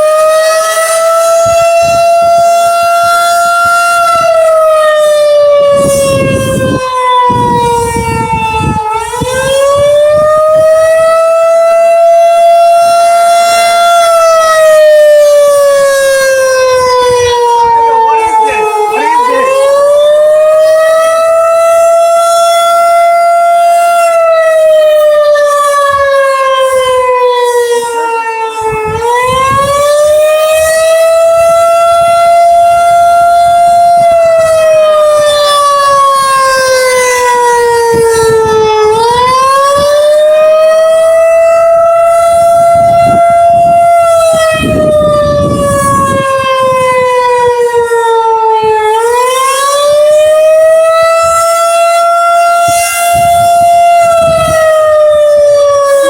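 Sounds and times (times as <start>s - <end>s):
tornado siren rising and falling: 0.0s - 56.0s.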